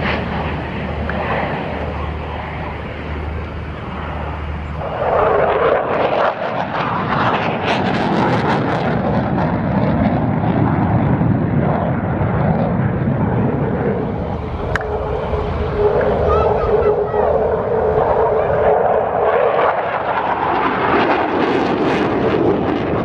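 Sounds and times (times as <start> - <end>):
jet passing overhead: 0.0 - 23.0.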